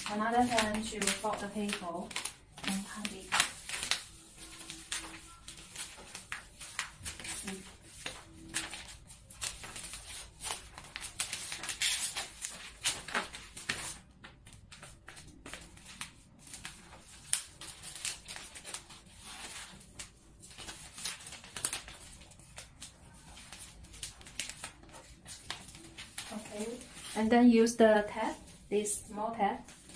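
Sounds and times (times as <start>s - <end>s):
paper crinkling and rustling: 0.0s - 29.9s.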